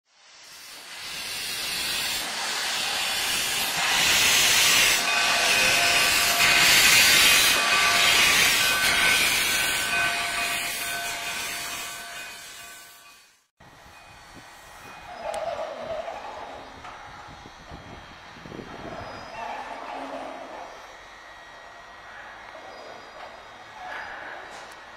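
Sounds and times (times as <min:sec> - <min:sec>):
locomotive steam hissing: 0:00.1 - 0:24.9.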